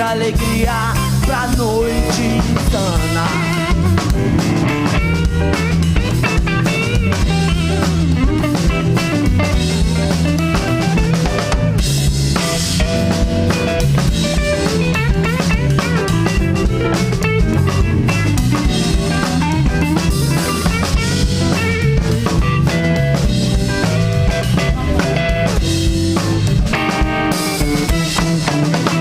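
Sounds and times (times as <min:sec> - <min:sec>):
bass guitar: 0:00.0 - 0:29.0
drum kit steady beat: 0:00.0 - 0:29.0
electric guitar lead: 0:00.0 - 0:29.0.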